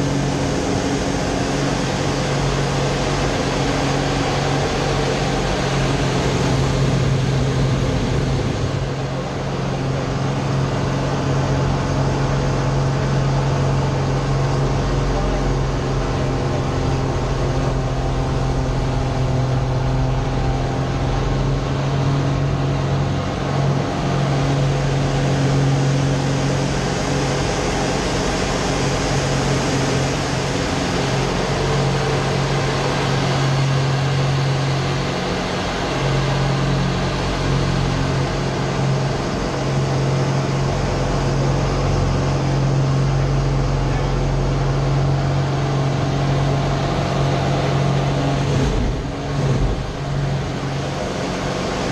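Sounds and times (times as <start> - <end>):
propeller plane engine running: 0.0 - 51.9.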